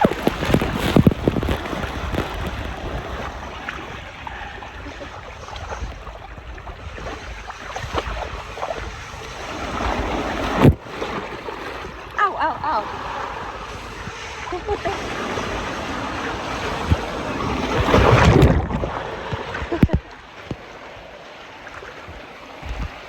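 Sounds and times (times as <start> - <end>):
wind buffeting microphone: 0.0 - 21.2, 22.0 - 23.0
rushing water: 0.0 - 23.0.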